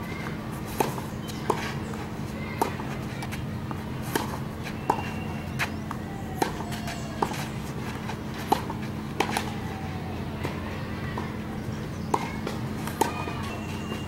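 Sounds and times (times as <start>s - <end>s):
tennis racket hitting ball: 0.0s - 9.6s, 12.1s - 14.0s
tennis ball bouncing: 0.0s - 9.7s, 12.0s - 14.0s.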